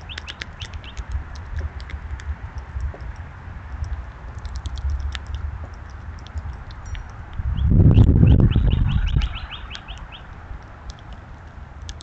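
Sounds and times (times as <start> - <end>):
squirrels cracking seed shells: 0.0 - 8.2, 9.0 - 12.0
low steady rumble: 0.0 - 12.0.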